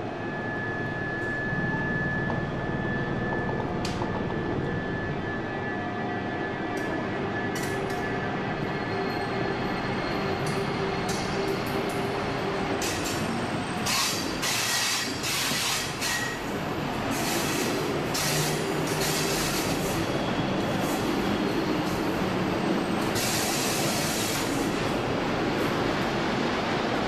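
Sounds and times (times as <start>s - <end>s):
train wheels rumbling in tunnel: 0.0s - 27.0s.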